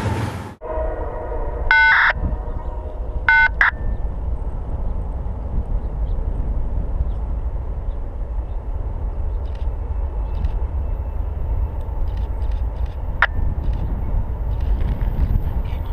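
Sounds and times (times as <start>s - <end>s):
distant locomotive horn: 0.0s - 15.9s
low rumble: 0.0s - 15.9s.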